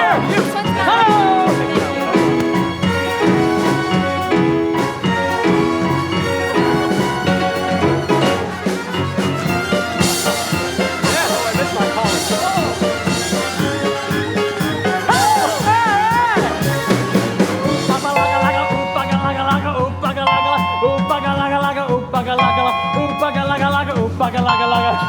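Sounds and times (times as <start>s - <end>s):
live band playing swing: 0.0s - 25.0s
steady drum beat: 0.0s - 25.0s.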